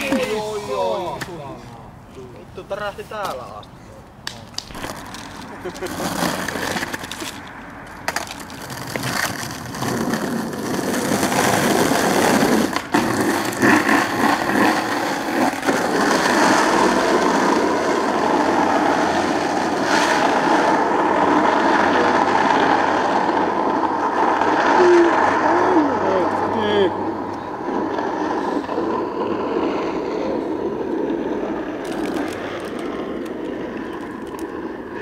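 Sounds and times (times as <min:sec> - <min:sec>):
skateboard clacks: 0:00.0 - 0:00.5, 0:04.2 - 0:25.4, 0:27.1 - 0:35.0
skateboard wheels rolling on asphalt: 0:00.0 - 0:35.0.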